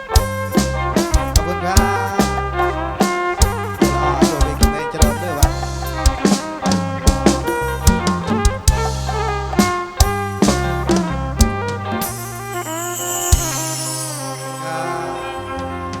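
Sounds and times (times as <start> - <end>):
steady drum beat: 0.0 - 14.4
bass: 0.0 - 16.0
held-note melody: 0.0 - 16.0.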